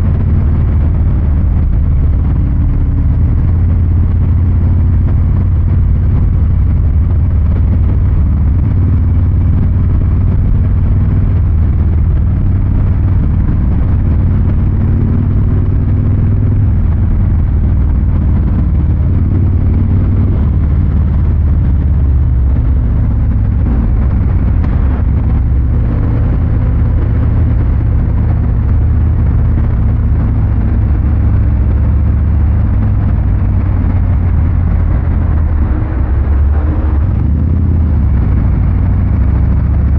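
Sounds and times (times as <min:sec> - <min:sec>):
motorcycle engine deep rumble: 0:00.0 - 0:39.9.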